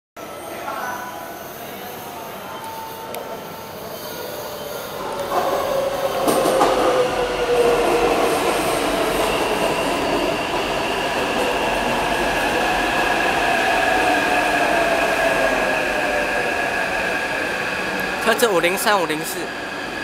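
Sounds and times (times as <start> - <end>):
train drive whine: 0.2 - 20.0
train wheels rolling: 2.6 - 20.0.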